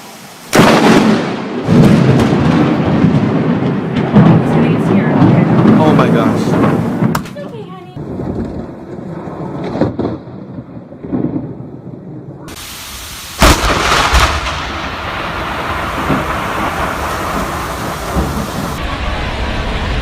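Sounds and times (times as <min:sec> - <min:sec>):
rain rushing: 0:00.0 - 0:10.0, 0:11.3 - 0:20.0
rumbling thunder: 0:00.5 - 0:07.2, 0:08.0 - 0:20.0
sharp thunder crack: 0:00.5 - 0:07.4, 0:08.0 - 0:20.0.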